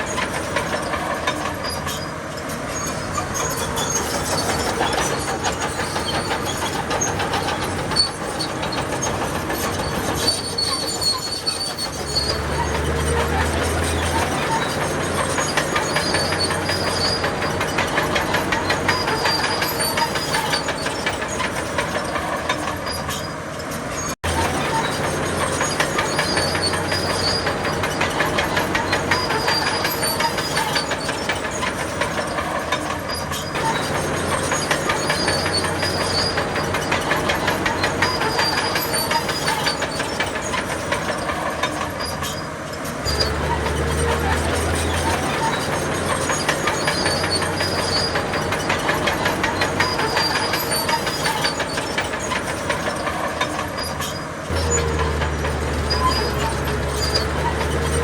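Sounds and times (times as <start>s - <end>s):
bulldozer engine humming: 0.0s - 58.0s
steel tracks clattering: 0.0s - 58.0s.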